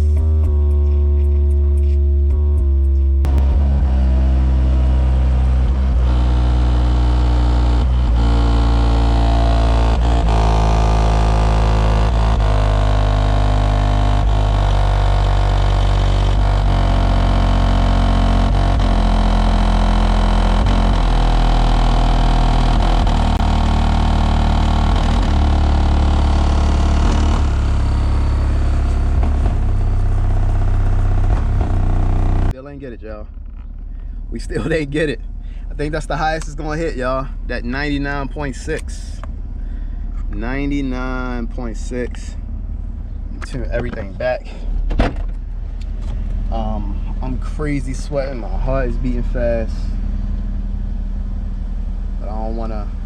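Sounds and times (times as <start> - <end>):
deep subwoofer bass: 0.0 - 53.0
distortion and rattle: 0.0 - 53.0.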